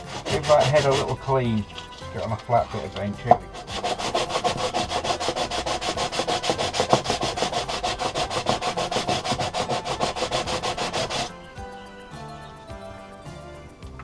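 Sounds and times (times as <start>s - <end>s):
metal scraping on sanding disc: 0.0s - 11.4s.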